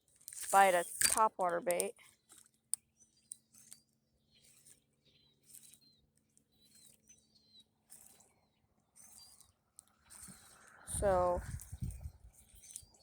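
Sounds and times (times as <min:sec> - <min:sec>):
bird chirps: 0:01.7 - 0:13.0.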